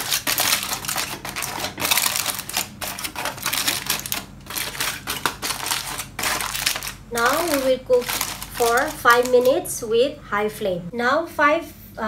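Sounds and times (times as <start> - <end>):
aluminium foil crinkling: 0.0 - 9.8.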